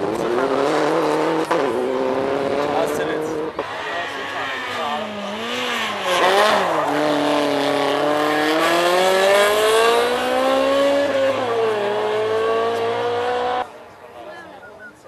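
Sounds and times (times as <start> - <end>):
car engine accelerating: 0.0 - 13.7.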